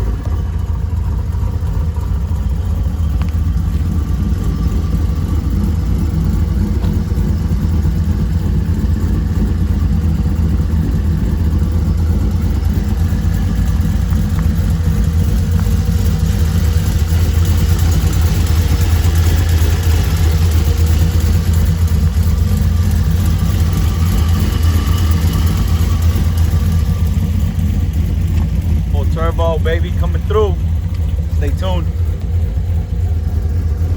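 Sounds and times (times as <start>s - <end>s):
loud car exhaust droning: 0.0s - 33.9s.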